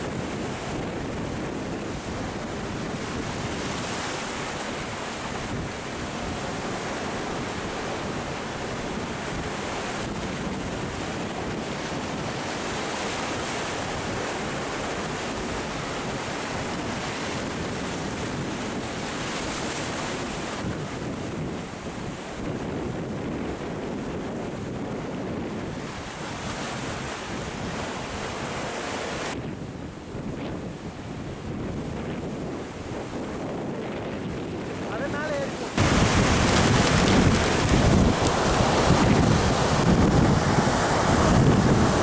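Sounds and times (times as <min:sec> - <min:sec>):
sea surf against rocks: 0:00.0 - 0:42.0
wind buffeting microphone: 0:00.0 - 0:42.0.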